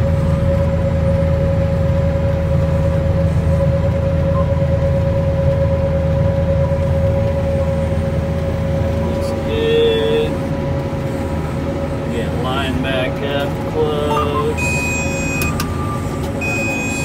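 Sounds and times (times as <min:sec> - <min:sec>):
steady engine whine: 0:00.0 - 0:17.0
tractor diesel engine running: 0:00.0 - 0:17.0.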